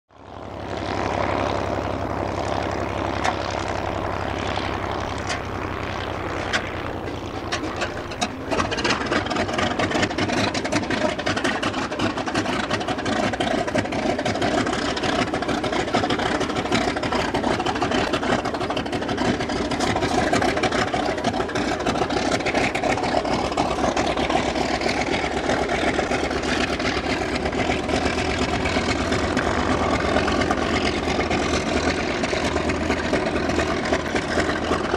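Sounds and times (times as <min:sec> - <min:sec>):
radial aircraft engine running: 0:00.1 - 0:34.9.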